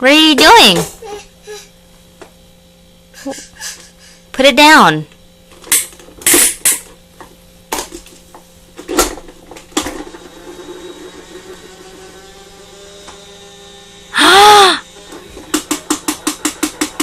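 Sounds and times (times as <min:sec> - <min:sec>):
faint wavering hum: 0:00.0 - 0:16.4.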